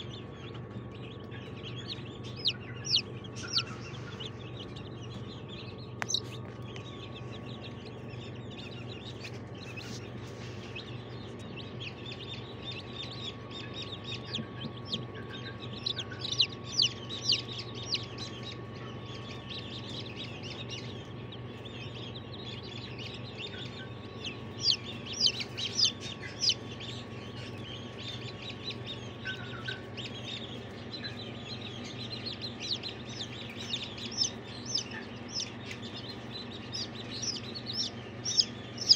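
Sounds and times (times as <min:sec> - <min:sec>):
chicks peeping: 0:00.0 - 0:38.9
steady low hum: 0:00.0 - 0:38.9.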